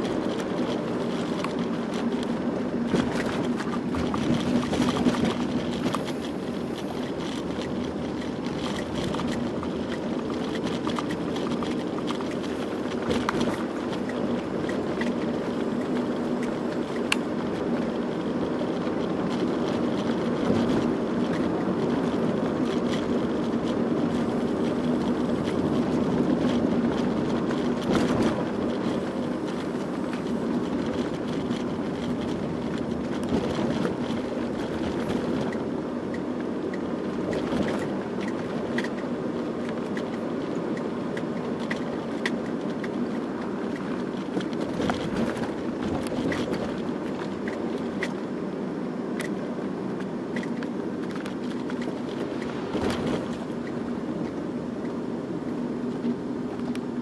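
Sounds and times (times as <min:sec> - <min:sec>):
car engine and road drone: 0:00.0 - 0:57.0.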